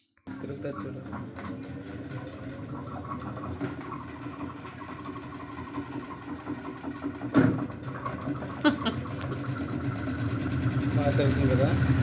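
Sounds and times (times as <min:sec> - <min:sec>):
washing machine motor running: 0:00.3 - 0:12.0.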